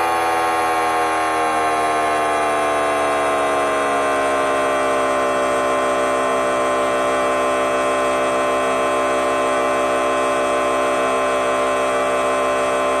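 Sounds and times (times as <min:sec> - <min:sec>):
loud horn-like blare: 0:00.0 - 0:13.0.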